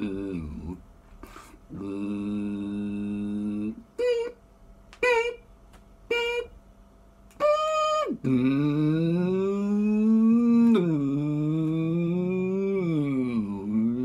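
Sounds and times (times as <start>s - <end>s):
man humming: 0.0s - 4.4s, 5.0s - 5.5s, 6.1s - 6.6s, 7.3s - 14.0s.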